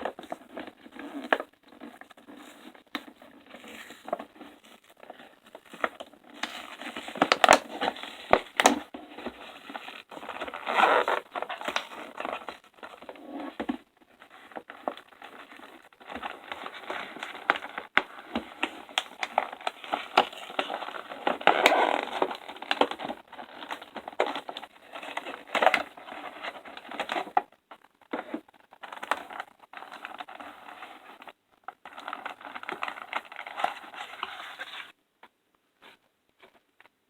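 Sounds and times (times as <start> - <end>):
packaging crinkling and rustling: 0.1 - 13.2, 14.2 - 34.9.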